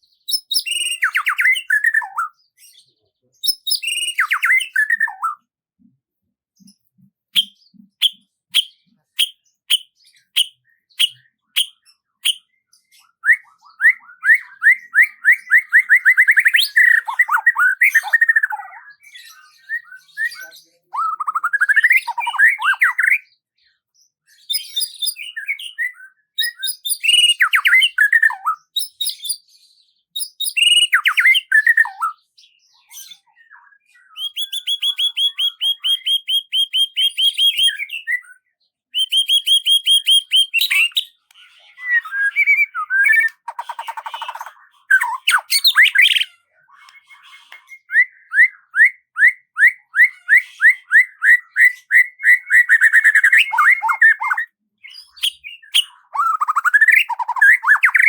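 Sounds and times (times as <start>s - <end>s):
songbird trilling and whistling: 0.1s - 2.8s, 3.4s - 5.5s, 6.6s - 23.4s, 24.3s - 29.6s, 30.2s - 58.0s.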